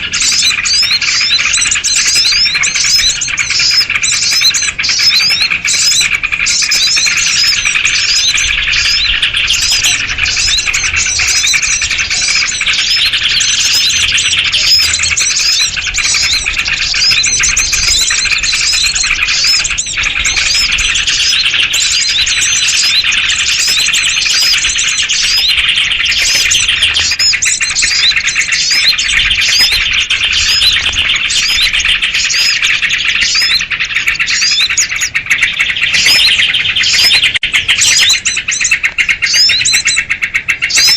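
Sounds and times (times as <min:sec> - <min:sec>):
bulbuls chattering and chirping: 0:00.0 - 0:40.9
small birds calling: 0:00.0 - 0:40.9.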